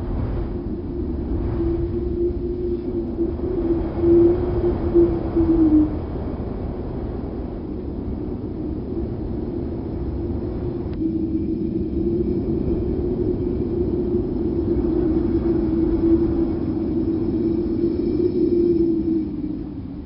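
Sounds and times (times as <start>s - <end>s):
wind rushing with droning hum: 0.0s - 20.0s.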